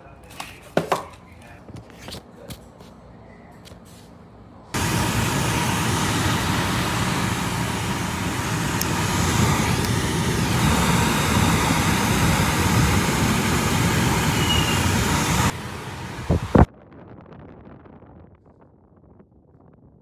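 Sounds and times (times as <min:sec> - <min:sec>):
blower fan running: 0:00.2 - 0:16.7.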